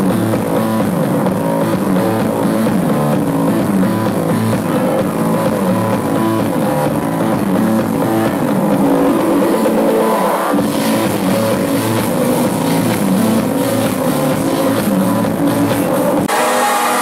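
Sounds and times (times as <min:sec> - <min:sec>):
loud club music: 0:00.0 - 0:17.0.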